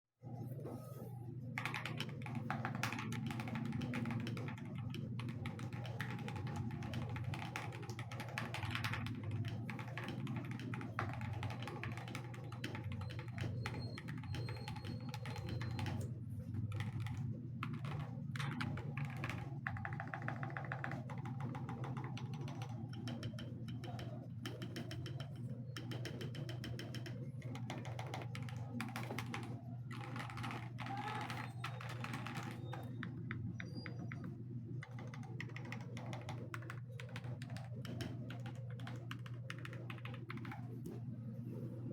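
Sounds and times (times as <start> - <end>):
mechanical keyboard typing: 1.6 - 41.0.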